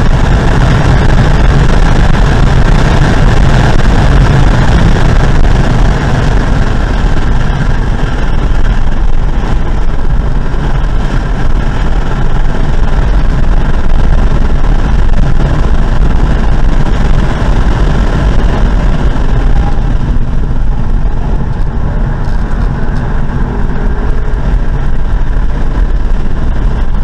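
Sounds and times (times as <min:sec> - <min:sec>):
car engine under load: 0:00.0 - 0:27.0
road noise: 0:00.0 - 0:27.0
wind noise: 0:00.0 - 0:27.0.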